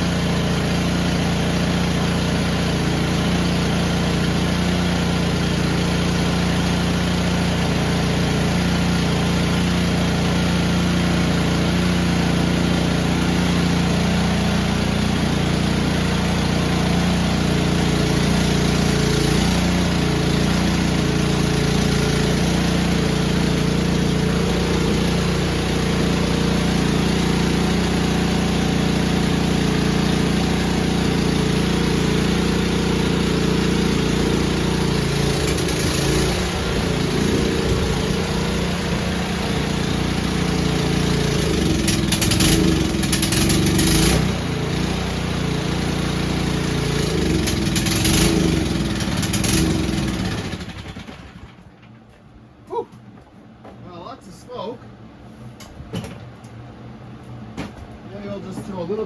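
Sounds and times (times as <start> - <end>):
snowblower engine running: 0.0 - 51.9.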